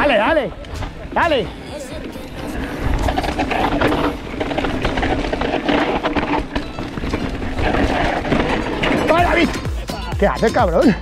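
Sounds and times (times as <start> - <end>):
mountain bike rattling: 0.0 - 11.0.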